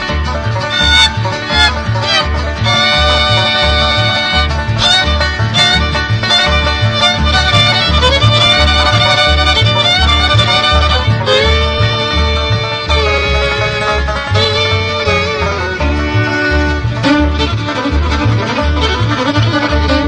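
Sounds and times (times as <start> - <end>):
banjo: 0.0 - 20.0
bass pulse: 0.0 - 20.0
fiddle: 0.0 - 20.0
guitar: 0.0 - 20.0.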